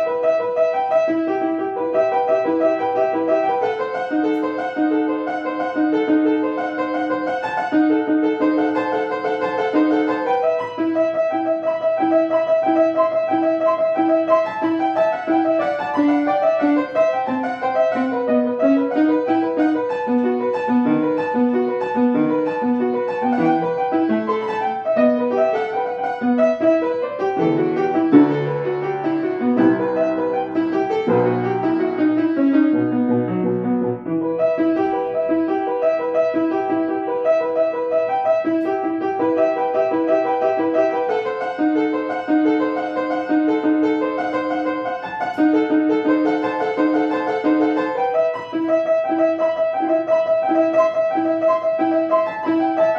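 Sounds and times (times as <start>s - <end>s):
solo classical piano: 0.0s - 52.9s.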